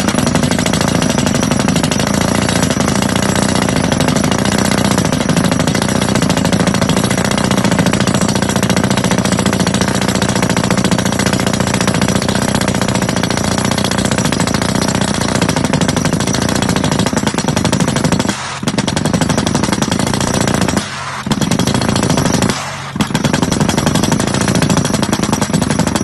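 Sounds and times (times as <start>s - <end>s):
hammer drill hammering: 0.0s - 26.0s.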